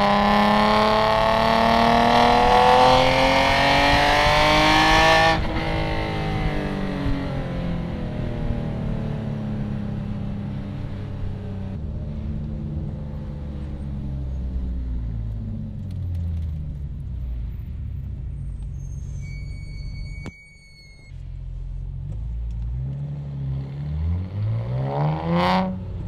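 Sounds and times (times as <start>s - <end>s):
car engine through loud exhaust: 0.0s - 26.0s
road noise: 0.0s - 26.0s.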